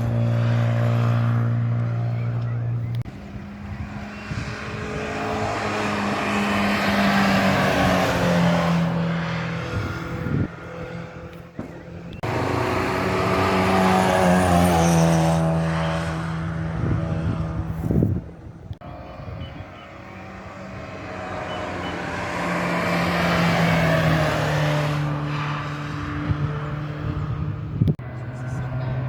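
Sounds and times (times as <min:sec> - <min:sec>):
racing cars accelerating past: 0:00.0 - 0:29.0.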